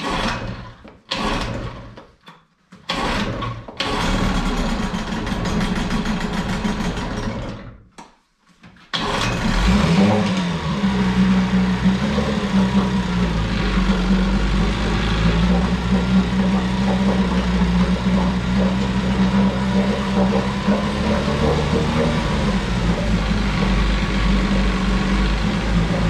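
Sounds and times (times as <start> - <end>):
outboard motor sputtering and running: 0.0 - 1.9, 2.9 - 7.7, 9.0 - 26.0.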